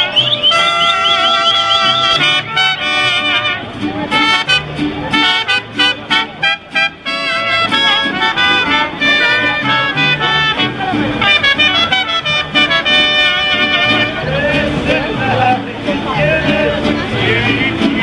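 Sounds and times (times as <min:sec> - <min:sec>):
brass band playing: 0:00.0 - 0:14.9.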